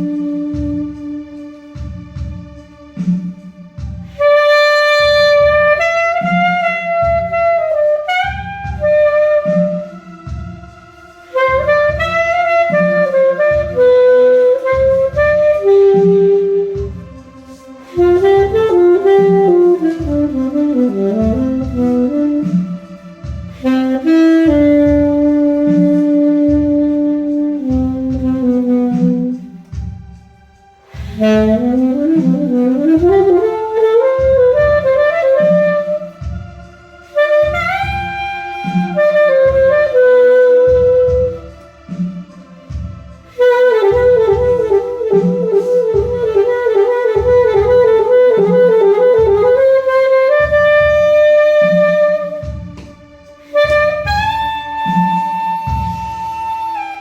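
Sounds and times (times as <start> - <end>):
alto saxophone melody: 0.0 - 57.0
backing track with low pulse: 0.0 - 57.0.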